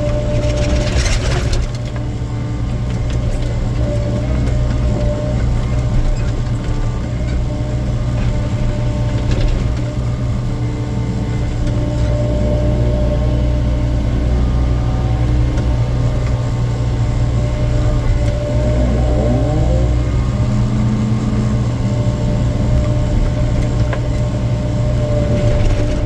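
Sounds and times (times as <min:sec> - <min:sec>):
excavator diesel engine running: 0:00.0 - 0:26.0
hydraulic whine: 0:02.6 - 0:26.0.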